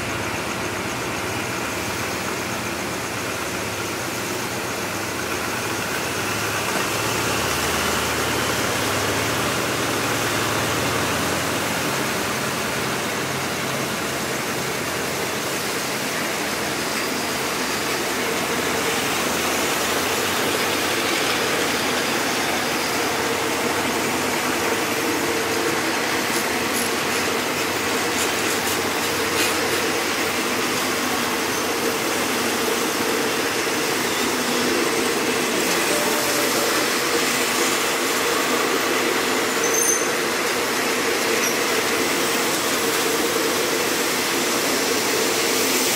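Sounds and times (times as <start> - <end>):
diesel train engine running: 0.0 - 45.9.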